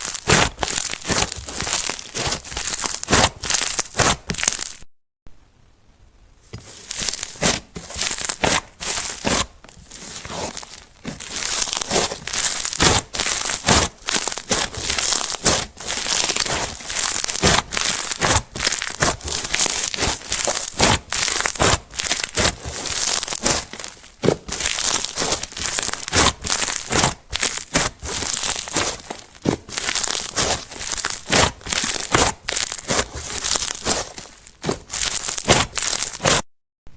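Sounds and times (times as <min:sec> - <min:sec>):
slime crackling and popping: 0:00.0 - 0:04.9, 0:06.5 - 0:36.5
slime squelching: 0:00.0 - 0:04.9, 0:06.5 - 0:36.5.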